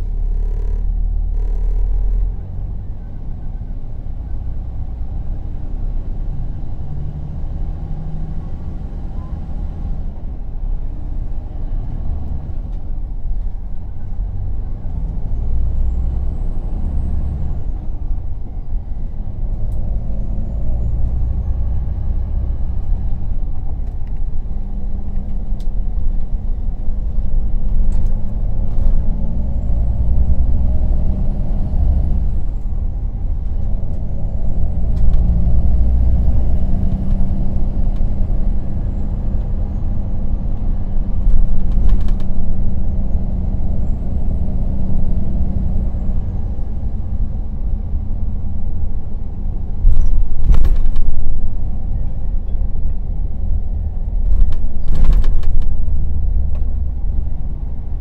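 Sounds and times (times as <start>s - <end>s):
bus diesel engine rumble: 0.0s - 58.0s.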